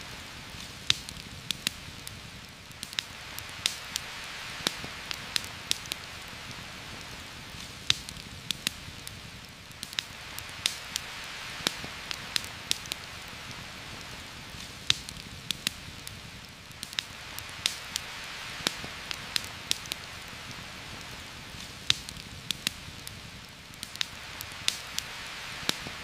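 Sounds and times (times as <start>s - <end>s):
campfire crackling: 0.0s - 26.0s
rain hiss: 0.0s - 26.0s.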